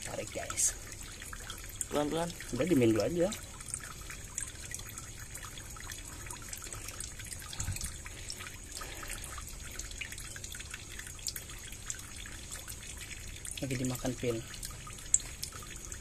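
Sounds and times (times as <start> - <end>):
water trickling among stones: 0.0 - 16.0.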